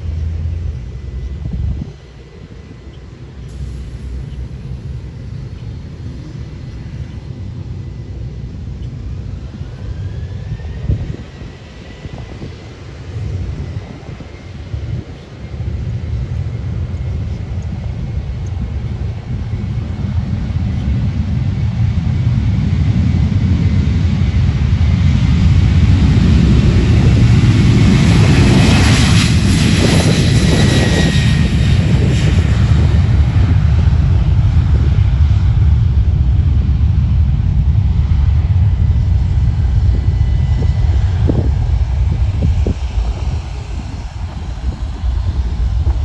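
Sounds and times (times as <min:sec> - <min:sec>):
aircraft engine passing by: 0:00.0 - 0:46.0
steady low rumble: 0:00.0 - 0:46.0.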